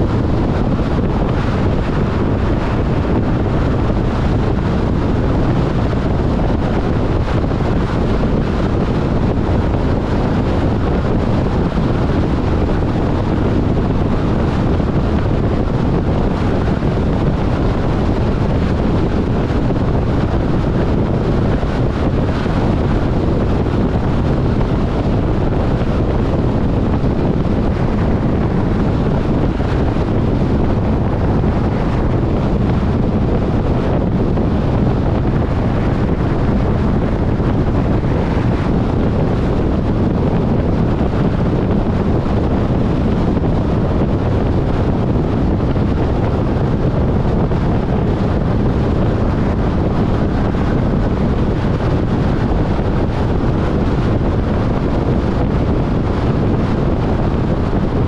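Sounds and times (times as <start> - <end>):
car road noise at speed: 0.0 - 58.0
wind buffeting microphone: 0.0 - 58.0.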